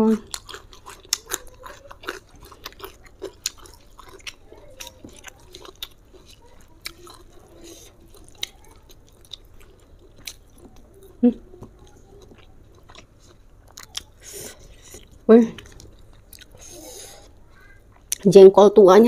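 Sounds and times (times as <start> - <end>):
chewing crunchy beans: 0.0 - 18.3.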